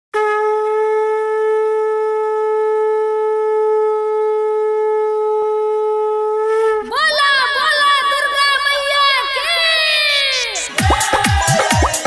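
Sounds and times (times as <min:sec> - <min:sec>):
wind instrument long held note: 0:00.1 - 0:10.8.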